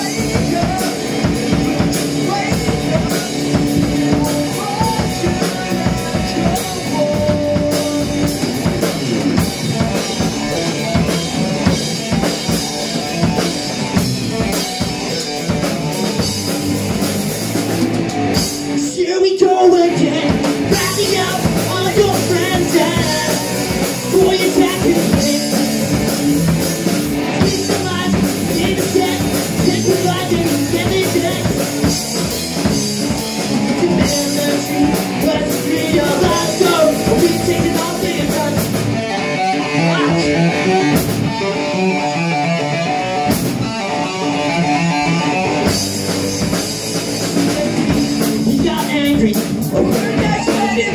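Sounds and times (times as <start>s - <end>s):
bass guitar: 0.0s - 50.9s
distorted electric guitar: 0.0s - 50.9s
drum kit: 0.0s - 50.9s.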